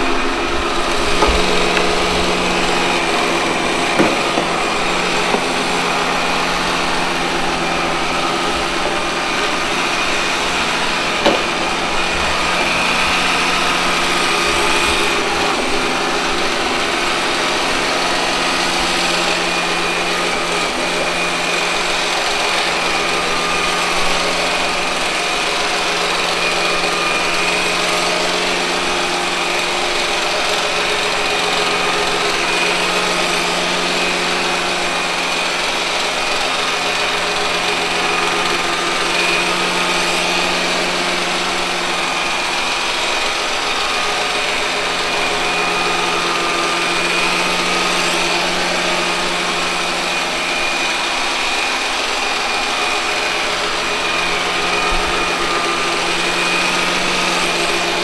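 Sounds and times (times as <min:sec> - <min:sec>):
robot vacuum motors whirring: 0:00.0 - 0:58.0.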